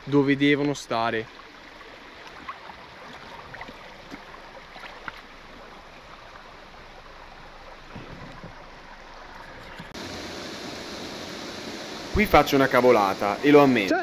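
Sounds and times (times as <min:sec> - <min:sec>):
stream running: 0:00.0 - 0:14.0.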